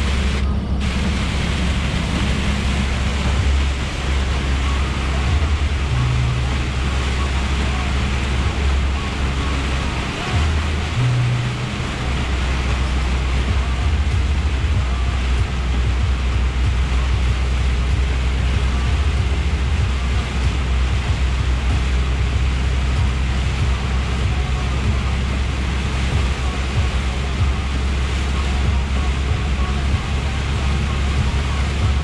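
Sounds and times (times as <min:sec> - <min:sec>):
diesel engine drone: 0:00.0 - 0:32.0
rain and tyres on wet road: 0:00.0 - 0:32.0.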